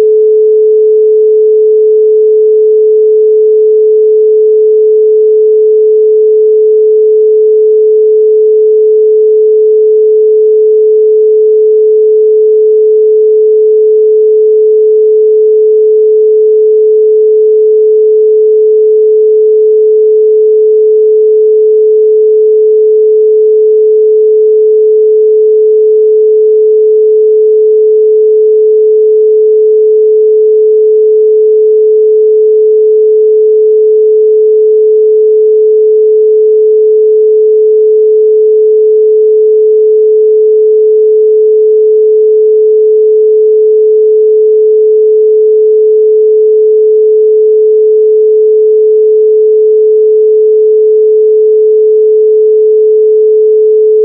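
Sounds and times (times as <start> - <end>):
pure sine tone: 0.0 - 54.0.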